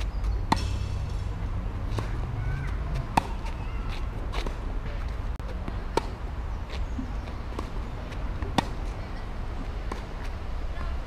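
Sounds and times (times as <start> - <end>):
racket striking tennis ball: 0.0 - 6.2, 7.4 - 9.2, 9.8 - 10.9.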